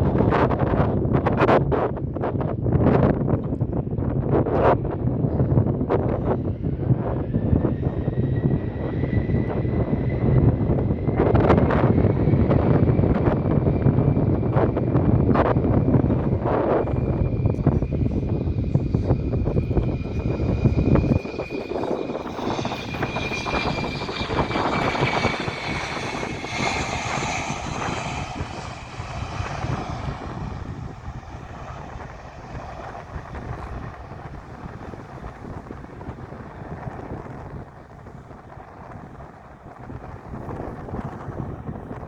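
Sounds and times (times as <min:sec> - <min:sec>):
jet engine rumble with fan whine: 0:00.0 - 0:42.0.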